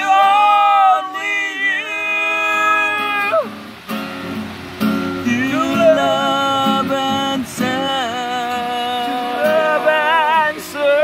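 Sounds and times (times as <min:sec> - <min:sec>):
man singing: 0:00.0 - 0:03.4, 0:05.2 - 0:11.0
strummed acoustic guitar: 0:00.0 - 0:11.0.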